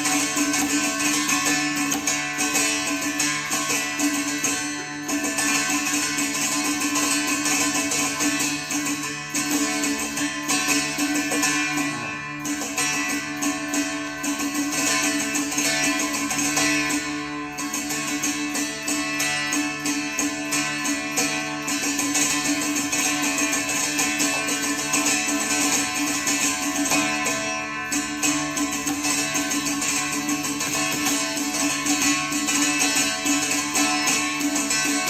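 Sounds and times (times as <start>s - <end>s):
plucked string instrument: 0.0s - 35.0s.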